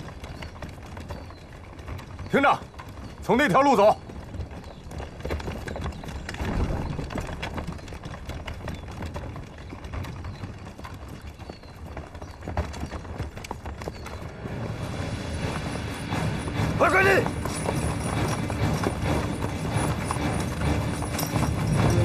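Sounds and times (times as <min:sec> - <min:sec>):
horse hooves on gravel: 0:00.0 - 0:22.0
wooden carts rumbling and rattling: 0:00.0 - 0:22.0.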